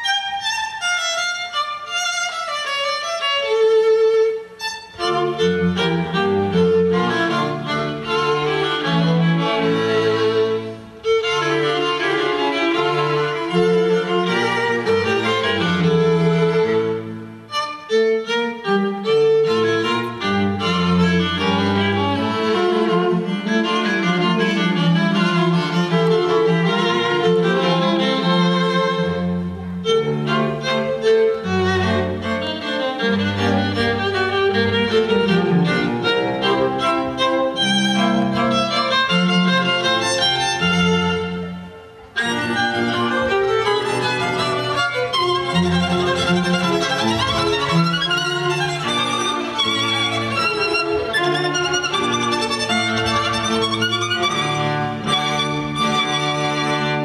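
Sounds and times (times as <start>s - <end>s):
string music led by violin: 0.0s - 57.0s.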